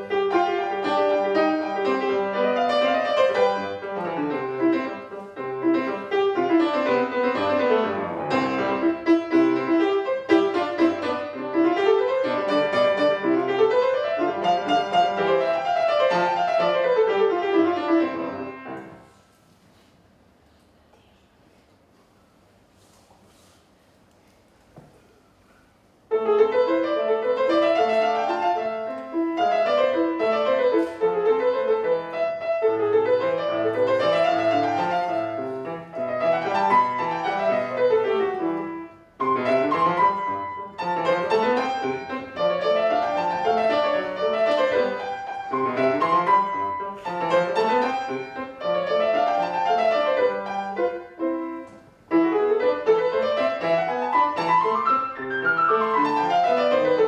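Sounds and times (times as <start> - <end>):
solo piano piece: 0.0 - 19.2, 26.0 - 57.0.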